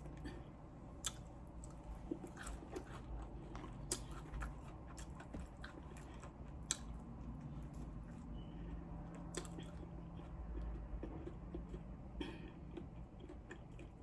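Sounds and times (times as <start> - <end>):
crunchy chewing of fried chicken: 0.0 - 14.0.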